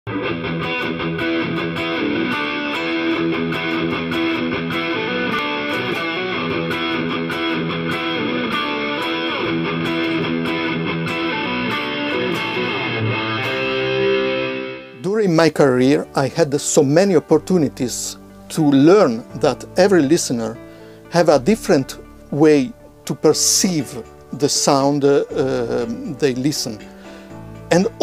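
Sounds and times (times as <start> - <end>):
electric guitar music: 0.1 - 28.0.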